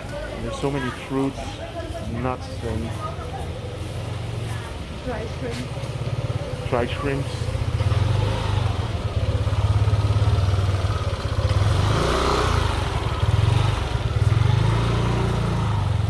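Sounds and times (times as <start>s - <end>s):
motorcycle engine running: 2.4s - 16.0s.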